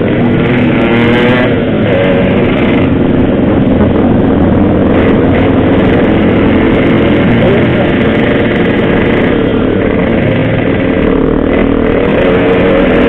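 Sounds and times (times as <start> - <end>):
two-stroke motorcycle engine running: 0.0 - 13.0.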